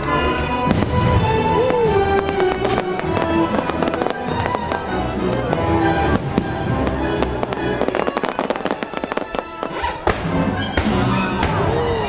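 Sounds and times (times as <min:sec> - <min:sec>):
fireworks bangs: 0:00.0 - 0:12.0
music: 0:00.0 - 0:12.0.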